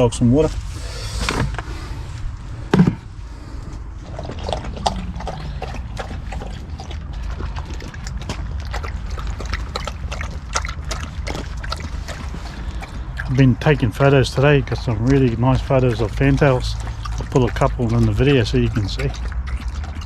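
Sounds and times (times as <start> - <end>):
dog lapping water: 2.5 - 20.0.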